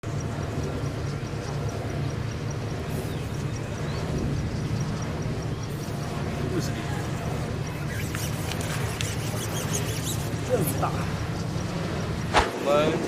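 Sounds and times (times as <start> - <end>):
faint high ticking: 0.0 - 12.3.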